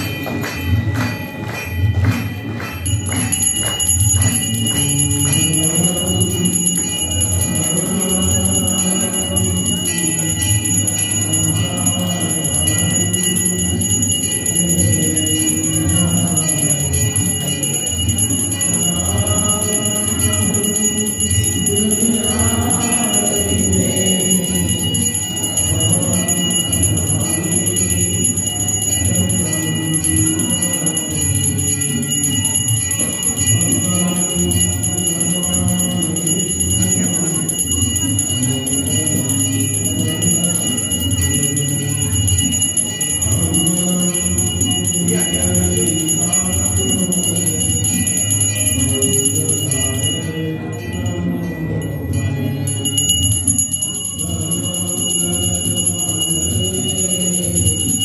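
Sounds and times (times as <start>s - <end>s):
devotional singing: 0.0s - 58.0s
temple bells ringing: 0.0s - 58.0s.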